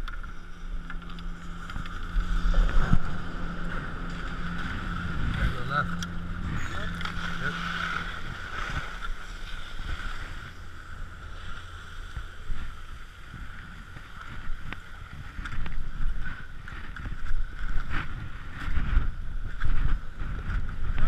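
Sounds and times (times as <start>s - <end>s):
wind rumbling on microphone: 0.0s - 21.0s
skis scraping over snow: 1.4s - 21.0s.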